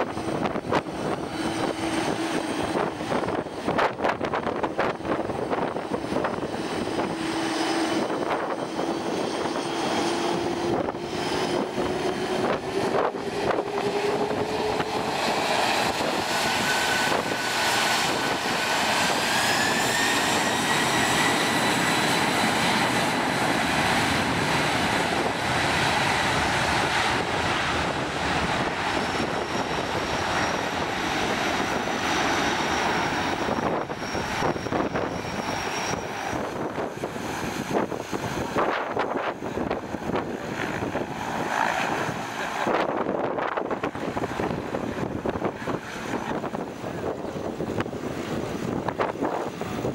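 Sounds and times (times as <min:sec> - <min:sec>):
jet engines spooling up: 0:00.0 - 0:49.9.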